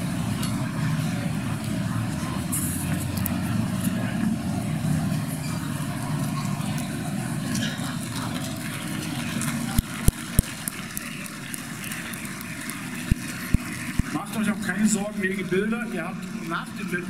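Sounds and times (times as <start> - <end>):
audience chatter: 0.0 - 17.0.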